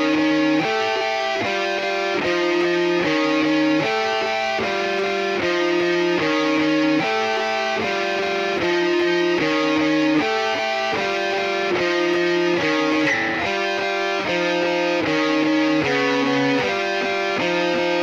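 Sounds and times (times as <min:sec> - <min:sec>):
plucked guitar music: 0:00.0 - 0:18.0.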